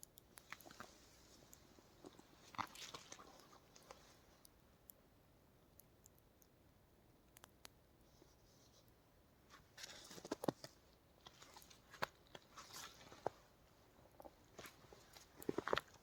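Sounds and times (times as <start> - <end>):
faint crunches and clicks: 0.0 - 5.0, 7.3 - 16.0.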